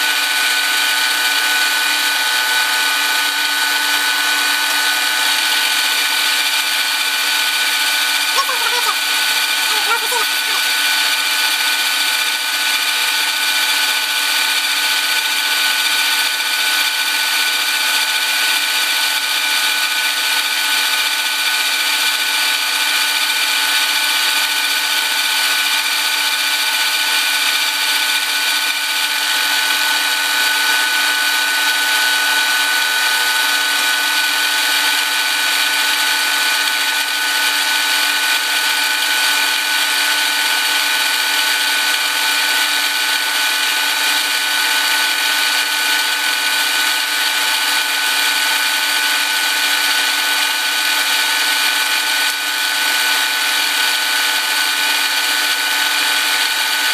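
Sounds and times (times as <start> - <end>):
milling cutter cutting metal: 2.6 - 56.9.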